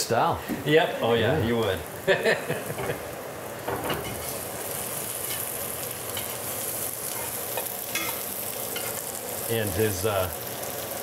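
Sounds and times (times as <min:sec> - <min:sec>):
potatoes sizzling in a skillet: 0:00.1 - 0:11.0.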